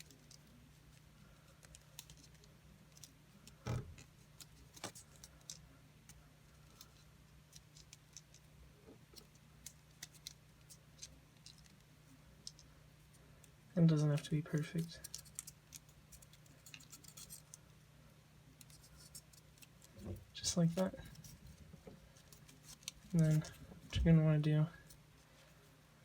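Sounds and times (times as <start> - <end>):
paper crinkling and clicking: 0.0 - 8.5, 9.1 - 12.7, 13.4 - 17.6, 18.6 - 23.6.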